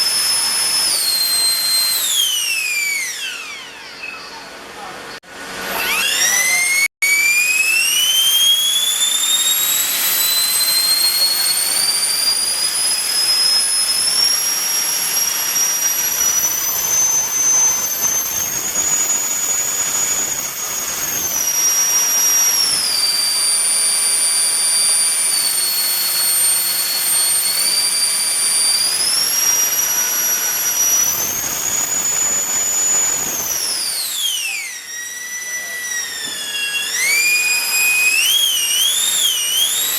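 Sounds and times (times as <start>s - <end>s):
electric ducted fan whine: 0.0s - 39.9s.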